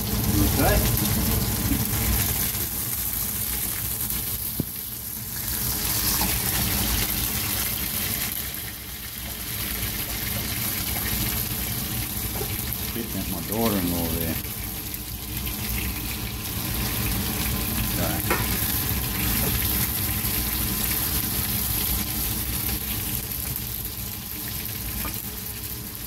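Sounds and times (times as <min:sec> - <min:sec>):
fish sizzling in a frying pan: 0:00.0 - 0:26.0.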